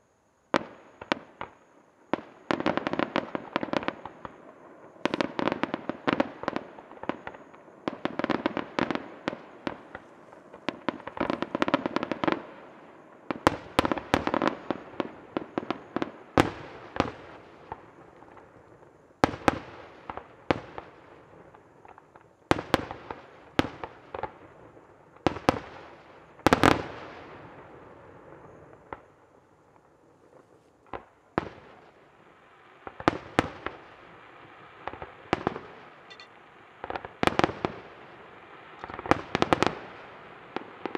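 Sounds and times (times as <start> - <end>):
fireworks bursting: 0.5 - 40.9.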